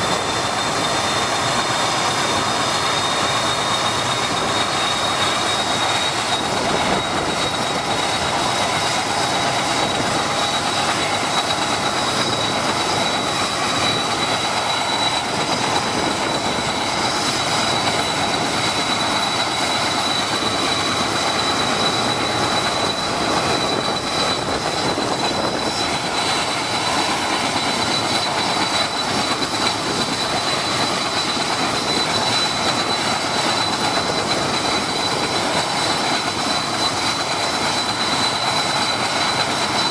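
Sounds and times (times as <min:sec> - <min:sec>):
engine and rotor rush: 0:00.0 - 0:39.9
helicopter turbine whine: 0:00.0 - 0:39.9.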